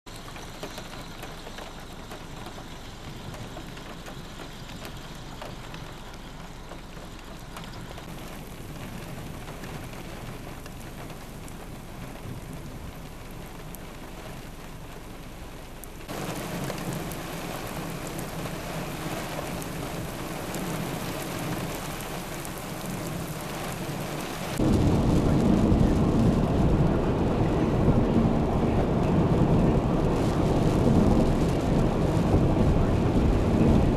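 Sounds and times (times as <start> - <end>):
heavy rain: 0.1 - 33.9.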